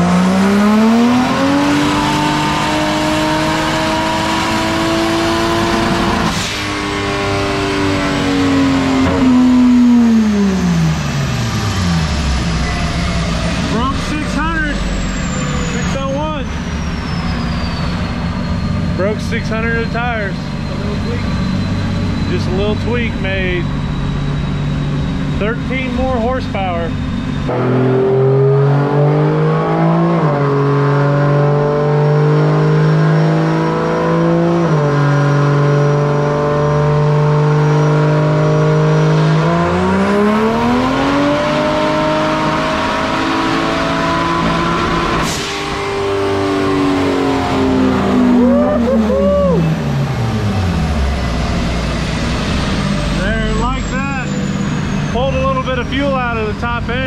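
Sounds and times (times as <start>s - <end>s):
engine revving on a dyno: 0.0s - 57.0s.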